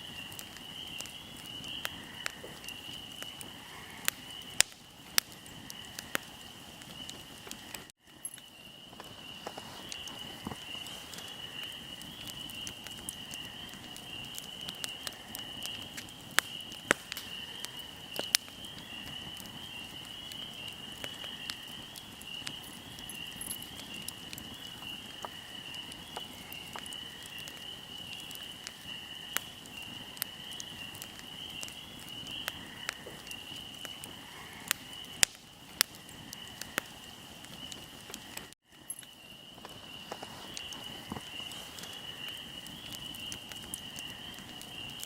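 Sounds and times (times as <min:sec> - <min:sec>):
fire crackling: 0:00.0 - 0:45.0.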